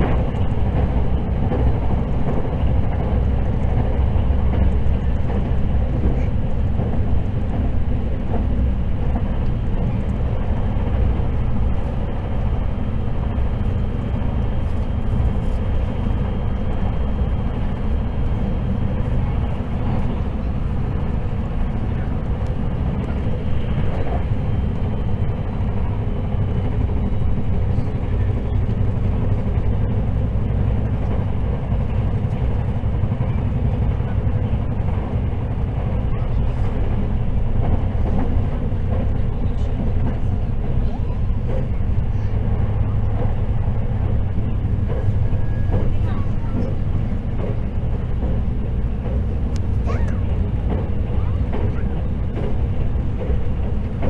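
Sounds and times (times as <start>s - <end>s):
train cabin running rumble: 0.0s - 54.0s.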